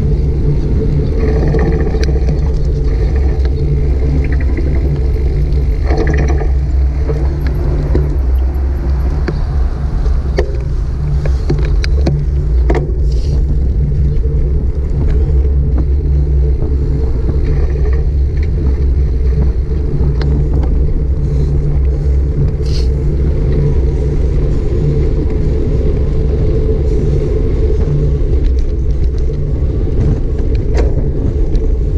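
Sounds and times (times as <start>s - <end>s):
bicycle clicks and rattles: 0.0s - 31.9s
bicycle road noise: 0.0s - 31.9s
wind noise: 0.0s - 31.9s.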